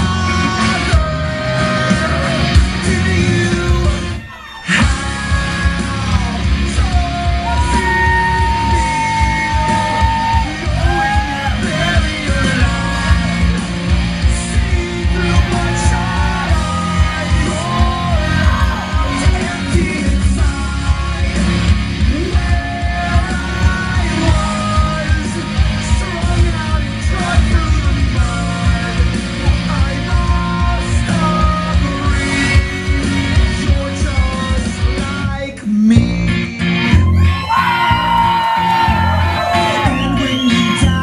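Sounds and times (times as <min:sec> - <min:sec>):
music with driving beat: 0:00.0 - 0:41.0
person singing: 0:00.0 - 0:41.0.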